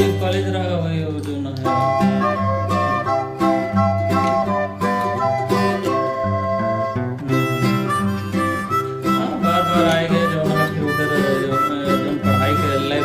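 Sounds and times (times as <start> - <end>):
guitar: 0.0 - 13.0
upbeat instrumental music: 0.0 - 13.0
harmonica: 1.6 - 13.0.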